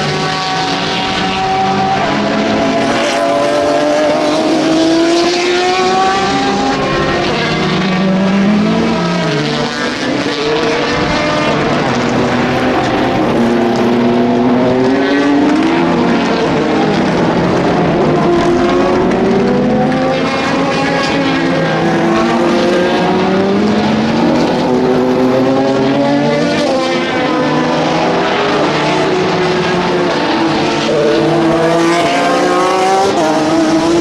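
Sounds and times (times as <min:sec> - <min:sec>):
race car engines accelerating: 0:00.0 - 0:34.0.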